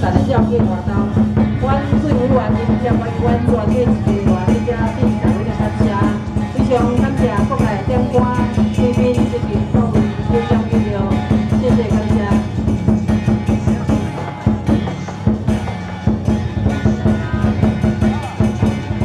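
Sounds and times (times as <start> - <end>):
fast drum and percussion beats: 0.0 - 19.0.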